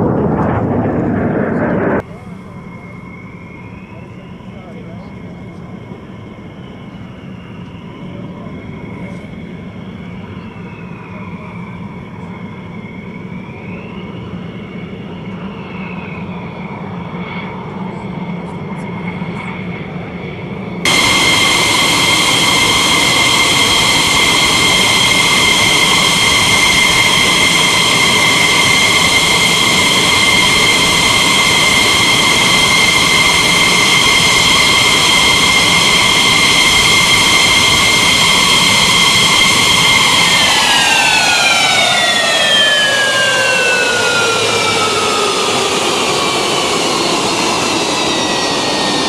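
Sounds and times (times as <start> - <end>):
jet engine whine and roar: 0.0 - 49.0.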